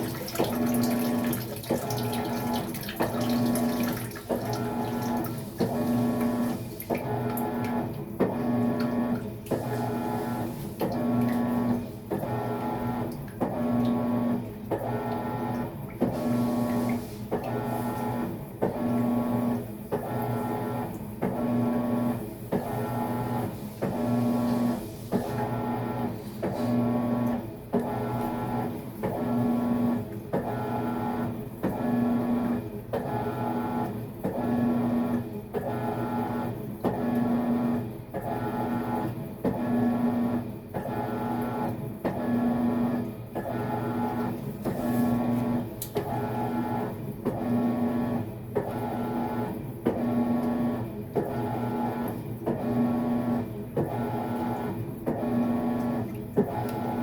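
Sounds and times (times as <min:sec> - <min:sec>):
washing machine agitating: 0:00.0 - 0:57.0.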